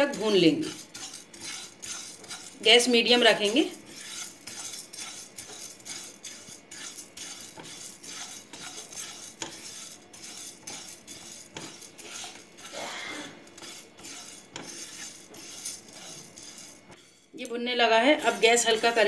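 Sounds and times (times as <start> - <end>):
seeds scraping in a pan: 0.0 - 19.0.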